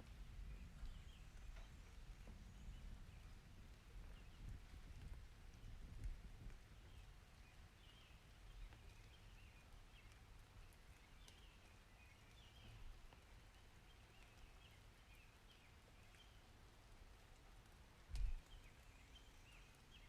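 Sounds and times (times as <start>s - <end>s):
light rain hiss: 0.0s - 20.0s.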